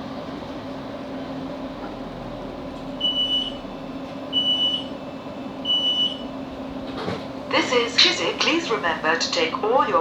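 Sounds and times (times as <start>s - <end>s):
train low hum: 0.0s - 10.0s.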